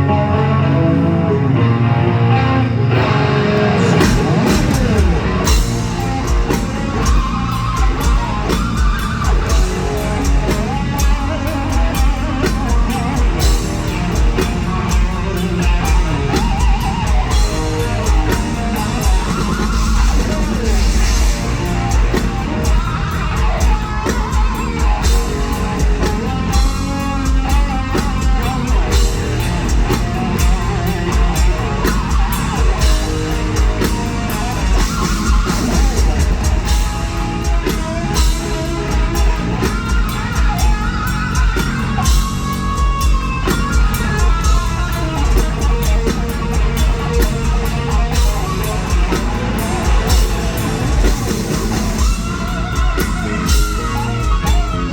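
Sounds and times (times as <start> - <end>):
heavy metal band playing: 0.0 - 54.9.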